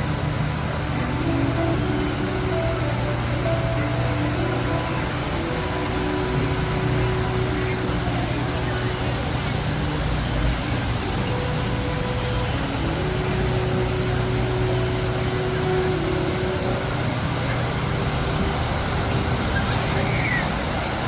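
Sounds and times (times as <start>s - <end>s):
faint drawn-out tones: 0.0s - 21.0s
low hum and rushing: 0.0s - 21.0s.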